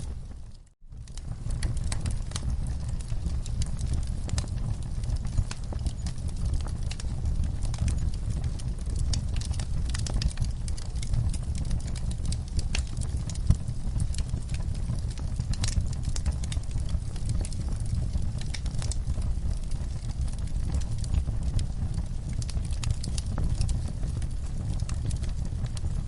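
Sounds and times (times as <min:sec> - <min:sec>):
fire popping and snapping: 0:00.0 - 0:26.0
low rumble of flames: 0:00.0 - 0:26.0
wood fire crackling: 0:00.0 - 0:26.0.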